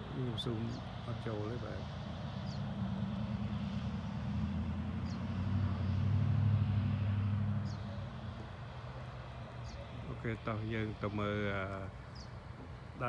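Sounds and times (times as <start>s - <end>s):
passing motor vehicle rumble: 0.0s - 13.0s.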